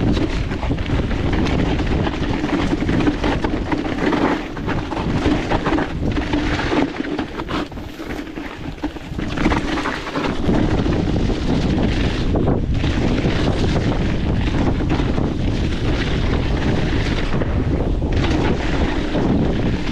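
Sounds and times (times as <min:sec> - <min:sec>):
bike knocks and rattles: 0:00.0 - 0:19.9
wind buffeting microphone: 0:00.0 - 0:19.9.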